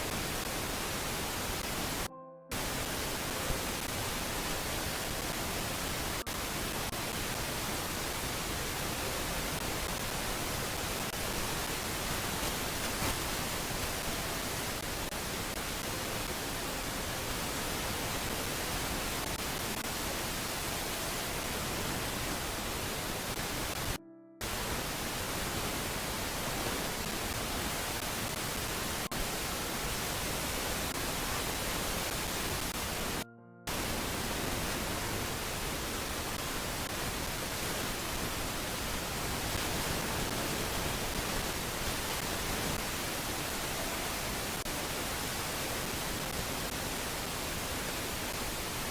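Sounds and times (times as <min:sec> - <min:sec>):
steady hiss: 0:00.0 - 0:48.9.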